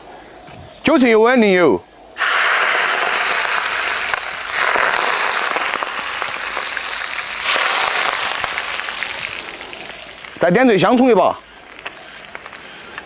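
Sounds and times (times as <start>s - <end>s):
hot oil sizzling and crackling: 2.2s - 13.0s.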